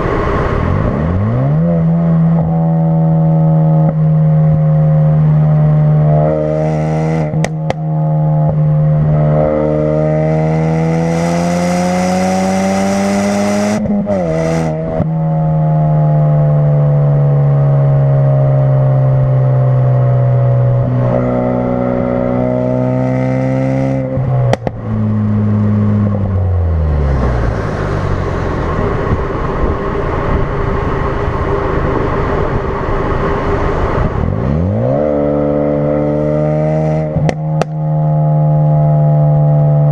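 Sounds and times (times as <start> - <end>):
car engine through exhaust: 0.0 - 39.9.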